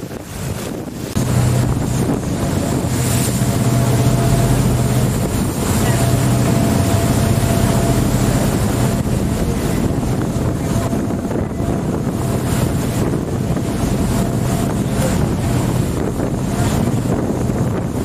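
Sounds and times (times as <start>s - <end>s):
boat engine running: 0.0s - 18.0s
water rushing: 0.0s - 18.0s
wind buffeting microphone: 0.0s - 18.0s.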